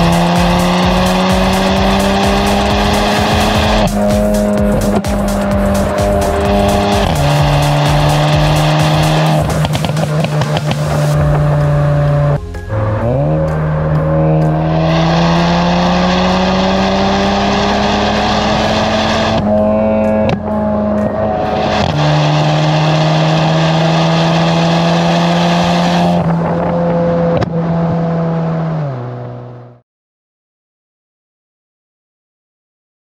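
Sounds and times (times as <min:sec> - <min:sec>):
car engine accelerating: 0:00.0 - 0:29.8.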